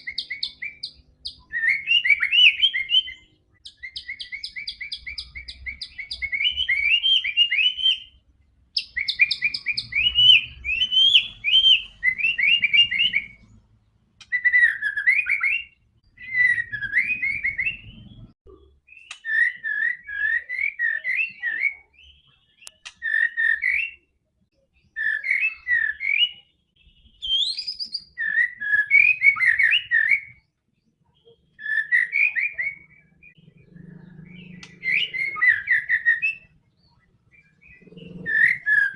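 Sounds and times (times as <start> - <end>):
songbird singing whistled phrases: 0.0 - 13.6, 14.2 - 38.9.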